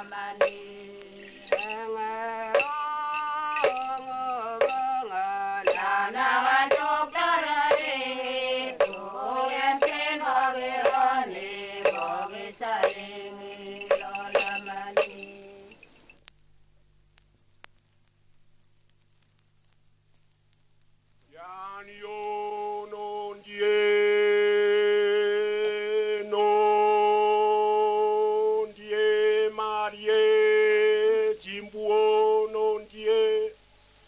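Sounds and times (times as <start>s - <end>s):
person chanting a song: 0.0s - 15.8s, 21.3s - 33.6s.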